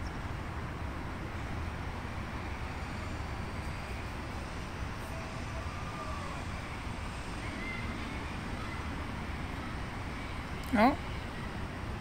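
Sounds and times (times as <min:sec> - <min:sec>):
low outdoor background rumble: 0:00.0 - 0:12.0.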